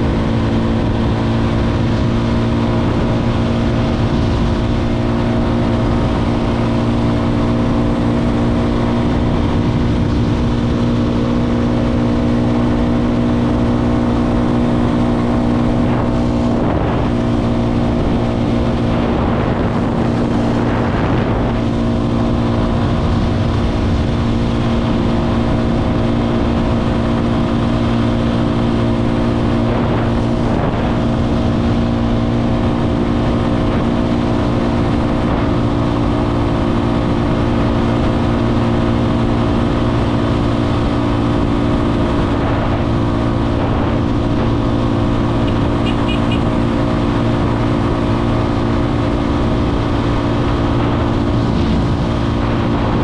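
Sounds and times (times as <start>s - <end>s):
motorcycle engine cruising: 0.0s - 53.0s.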